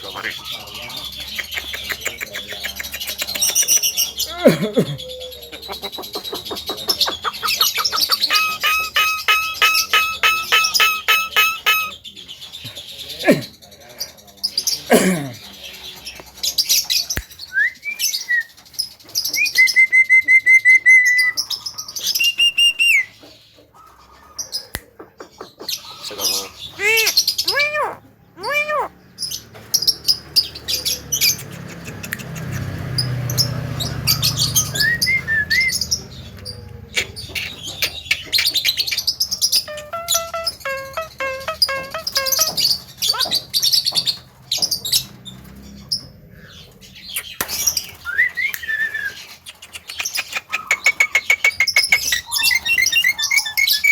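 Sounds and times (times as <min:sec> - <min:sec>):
myna bird calling and singing: 0:00.0 - 0:53.9.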